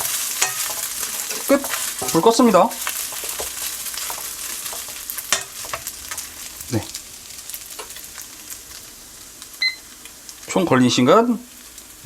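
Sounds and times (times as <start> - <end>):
rice sizzling in a frying pan: 0.0 - 12.0.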